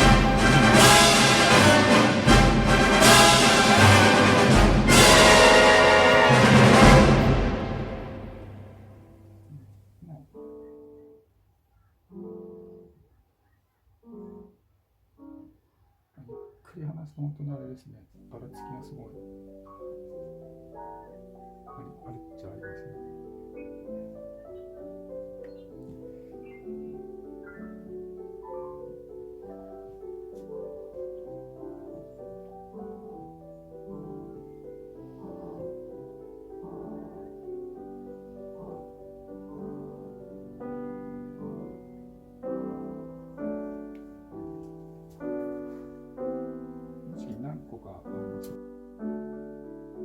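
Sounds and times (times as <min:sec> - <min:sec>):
digital piano melody: 0:00.0 - 0:11.4, 0:12.1 - 0:13.1, 0:14.0 - 0:50.0.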